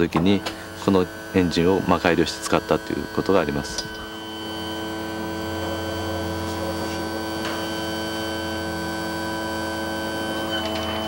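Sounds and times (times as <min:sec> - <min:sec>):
electric pump humming: 0:00.0 - 0:11.0.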